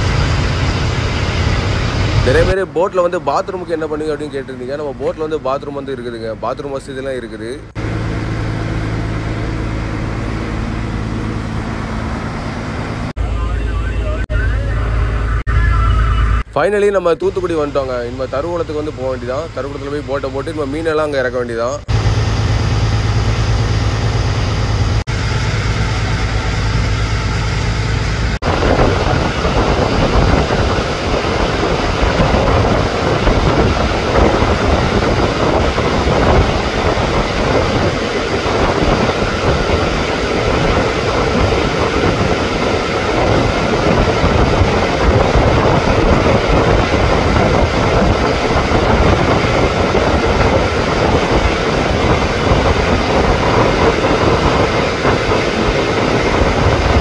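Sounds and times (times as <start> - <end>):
boat diesel engine running: 0.0 - 57.0.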